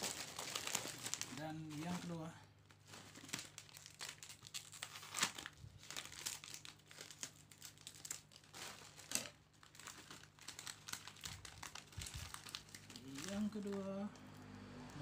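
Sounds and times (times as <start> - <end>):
plastic snack packet crinkling: 0.0 - 14.3.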